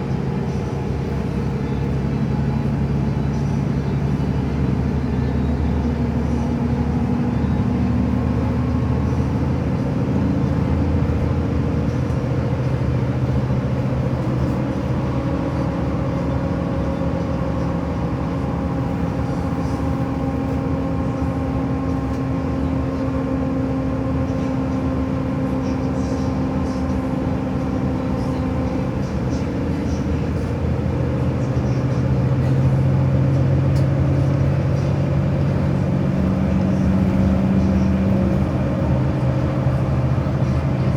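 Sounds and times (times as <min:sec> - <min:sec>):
vehicle engine drone: 0:00.0 - 0:40.9.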